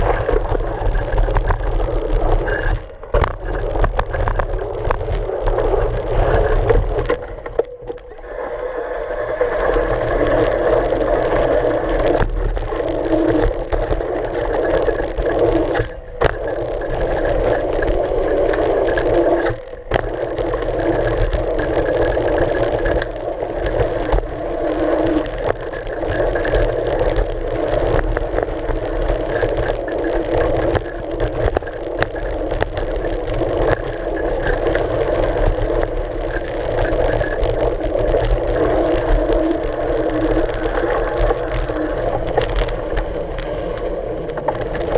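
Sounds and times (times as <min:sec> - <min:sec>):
bike tyre rumble on dirt: 0:00.0 - 0:44.9.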